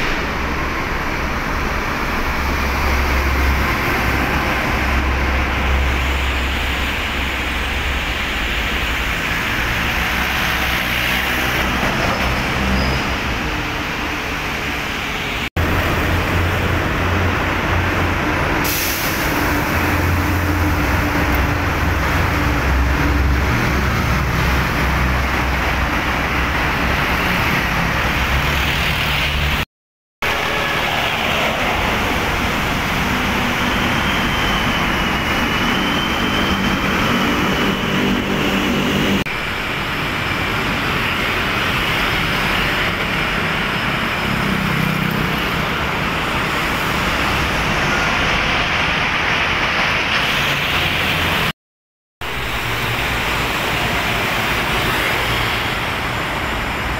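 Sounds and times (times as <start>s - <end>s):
heavy road traffic: 0.0s - 51.6s, 52.2s - 56.9s.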